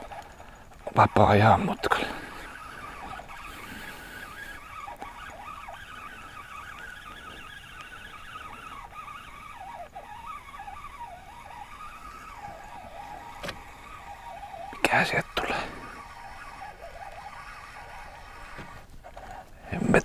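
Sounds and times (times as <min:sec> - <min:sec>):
fishing reel whining: 0:00.0 - 0:20.0.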